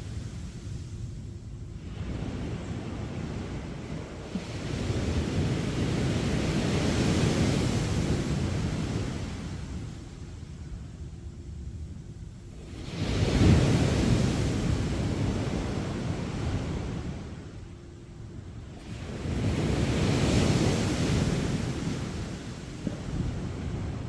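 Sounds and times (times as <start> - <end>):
wind on microphone: 0.0 - 24.0
waves breaking on a beach: 1.7 - 10.6, 12.5 - 17.6, 18.6 - 24.0.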